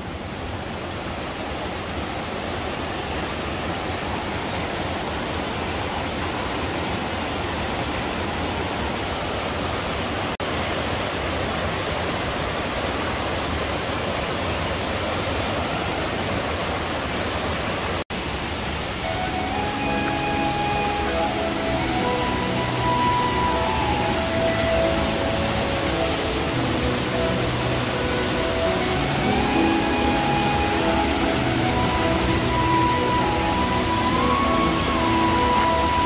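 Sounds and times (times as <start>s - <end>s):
stream rushing over boulders: 0.0s - 36.0s.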